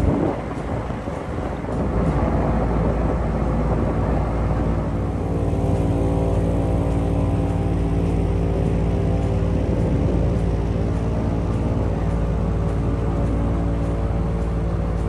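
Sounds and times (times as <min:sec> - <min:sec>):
airboat engine and propeller drone: 0:00.0 - 0:15.0.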